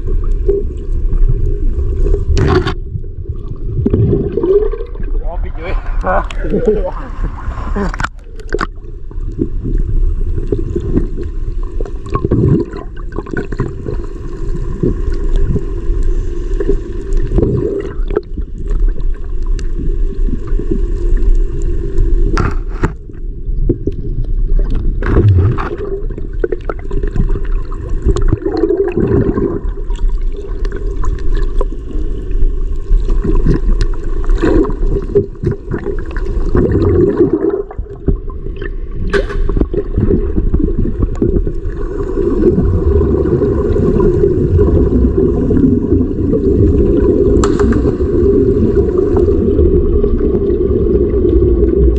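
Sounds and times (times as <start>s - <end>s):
underwater rushing and rumble: 0.0s - 51.9s.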